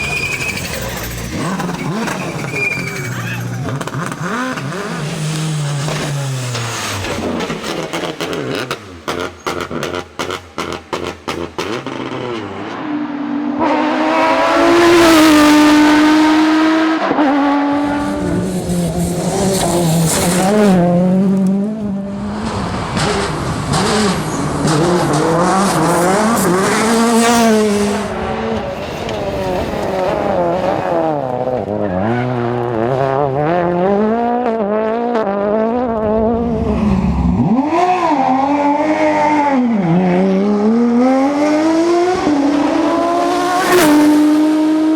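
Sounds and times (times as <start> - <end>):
rally car engines revving past: 0.0 - 44.9.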